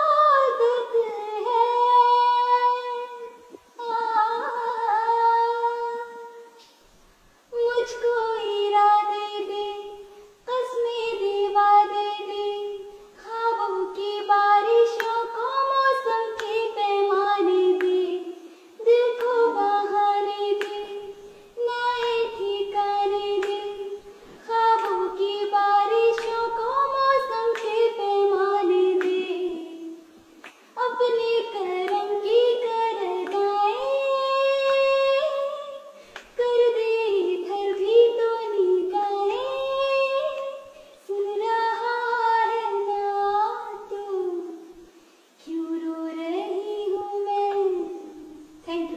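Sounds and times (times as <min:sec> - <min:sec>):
girl singing: 0:00.0 - 0:06.8, 0:07.5 - 0:48.9.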